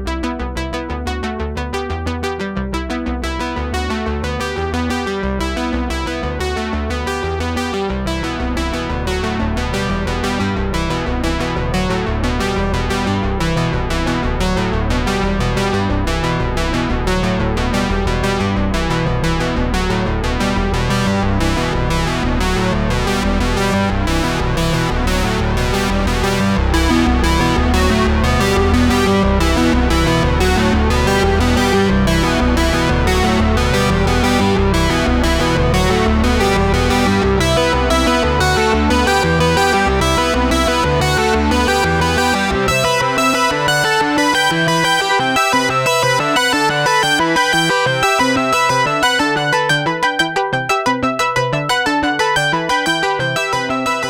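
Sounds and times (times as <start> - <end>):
bass line: 0.0 - 54.0
synthesizer and electric piano music: 0.0 - 54.0.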